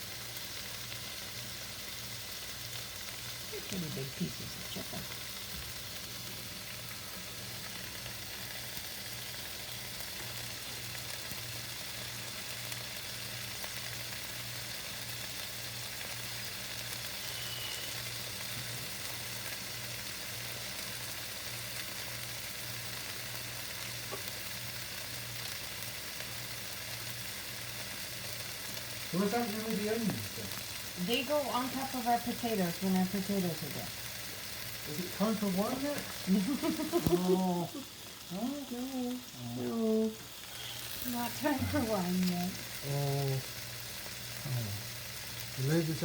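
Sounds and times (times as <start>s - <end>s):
chicken sizzling in a frying pan: 0.0s - 46.0s.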